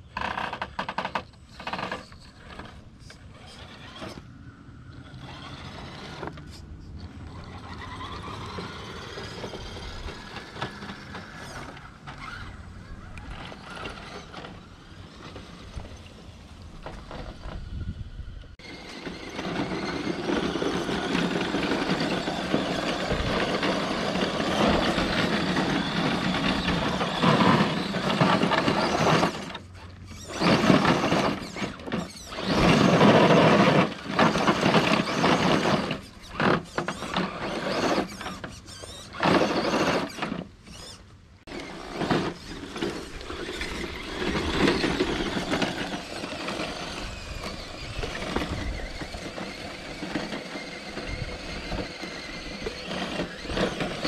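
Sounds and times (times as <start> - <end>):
electric motor whining: 1.5 - 54.0.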